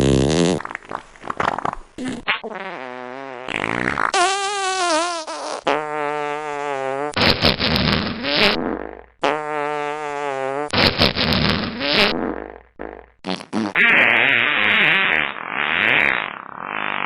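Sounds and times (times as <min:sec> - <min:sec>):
fart sound effects: 0:00.0 - 0:17.0.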